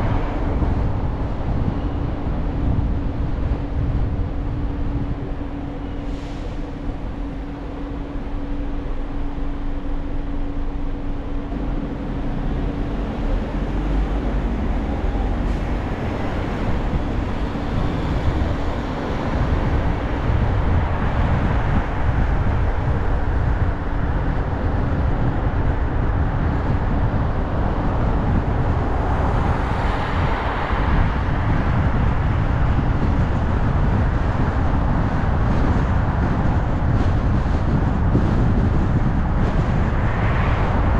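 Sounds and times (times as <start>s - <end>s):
car road and engine noise: 0.0s - 40.9s
wind: 0.0s - 40.9s.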